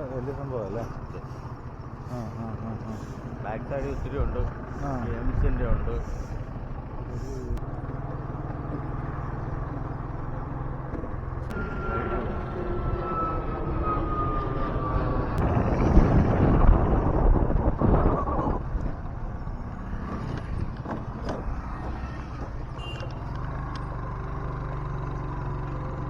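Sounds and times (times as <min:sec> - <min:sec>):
low engine hum: 0:00.0 - 0:26.0
passing traffic rush: 0:00.0 - 0:26.0
road noise: 0:00.0 - 0:26.0.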